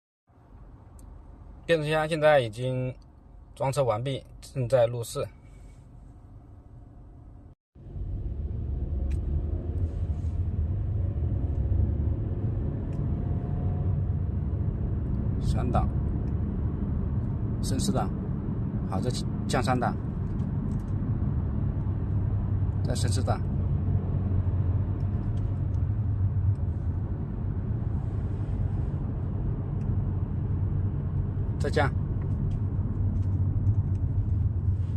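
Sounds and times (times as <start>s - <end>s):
engine and road noise rumble: 0.3s - 34.9s.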